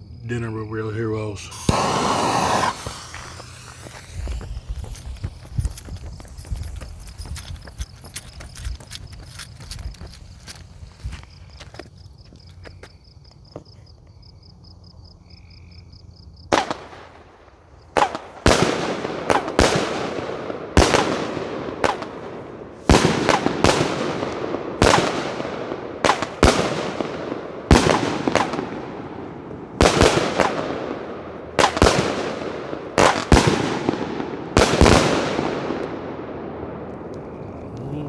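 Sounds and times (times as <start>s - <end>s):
crackling hiss: 0.0s - 11.8s, 16.5s - 38.0s.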